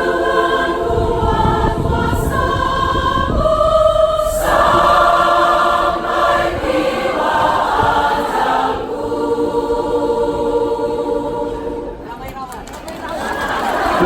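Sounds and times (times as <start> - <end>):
church choir singing a hymn: 0.0 - 12.2, 13.3 - 14.0.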